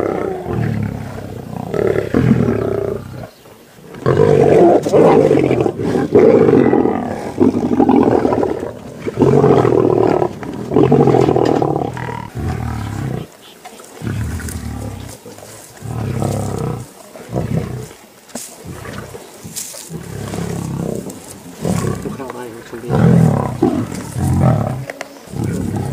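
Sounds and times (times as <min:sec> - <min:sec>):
lions growling: 0:00.0 - 0:25.9.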